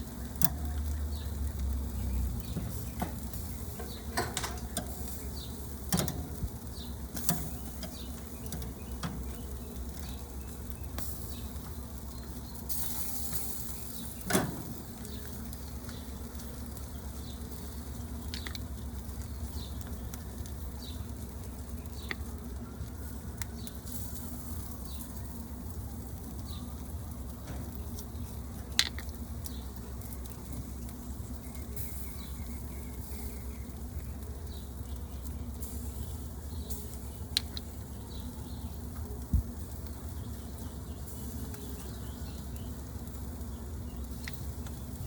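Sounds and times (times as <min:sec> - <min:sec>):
meat popping and crackling on grill: 0:00.0 - 0:45.0.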